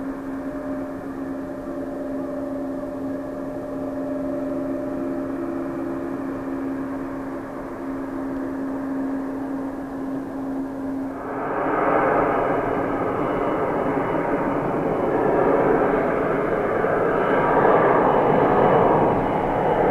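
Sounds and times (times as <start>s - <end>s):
jet engines running: 0.0s - 19.9s.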